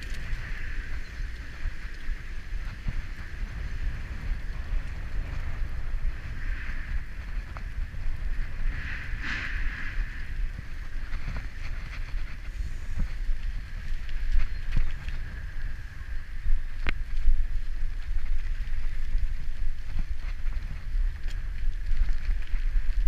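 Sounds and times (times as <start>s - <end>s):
bike clicks and rattles: 0.0s - 9.5s, 10.3s - 23.0s
wind rumbling on microphone: 0.0s - 23.0s.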